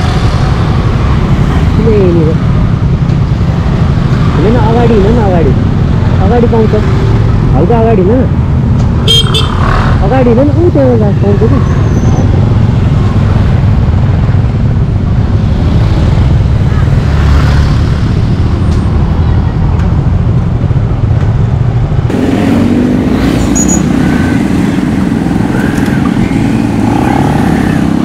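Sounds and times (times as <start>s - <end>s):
engine hum: 0.0s - 28.0s
traffic: 0.0s - 28.0s
wind and engine rumble: 0.0s - 28.0s.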